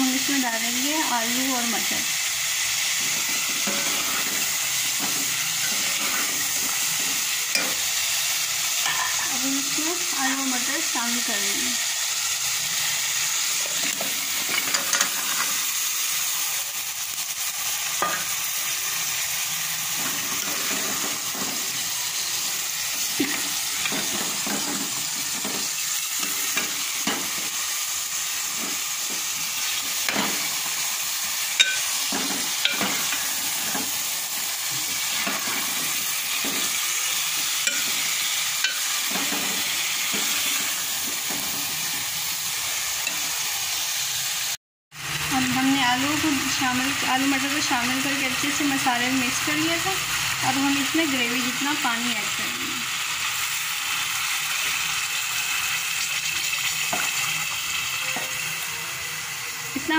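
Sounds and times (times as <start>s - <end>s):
food sizzling in pot: 0.0s - 59.9s.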